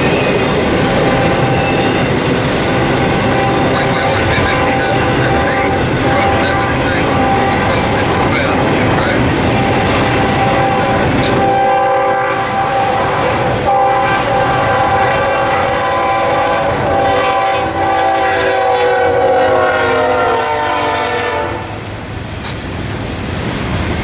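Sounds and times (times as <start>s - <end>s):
locomotive air horn: 0.0s - 21.8s
passing train rumble and clatter: 0.0s - 24.0s.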